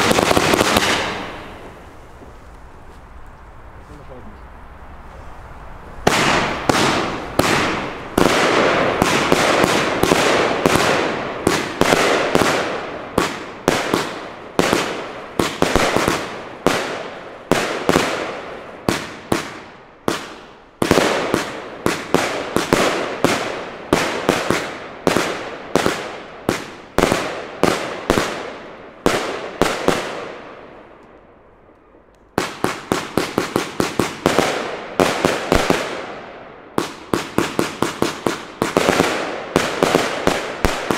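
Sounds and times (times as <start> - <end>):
firework launch and burst bangs: 0.0 - 2.0, 6.0 - 30.6, 32.4 - 40.9.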